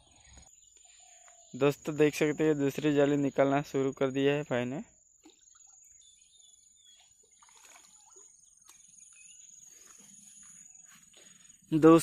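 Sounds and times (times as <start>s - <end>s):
bird chirp: 0.0s - 12.0s.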